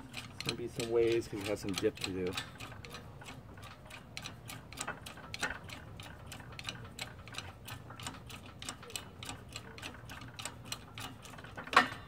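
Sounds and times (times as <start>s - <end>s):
hydraulic jack pumping ticks: 0.0s - 12.0s.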